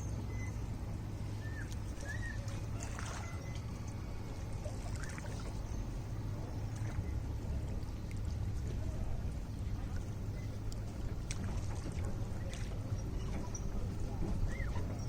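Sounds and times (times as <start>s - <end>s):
steady low rumble: 0.0s - 15.0s
water lapping at shore: 0.0s - 15.0s
light splashes: 0.6s - 15.0s.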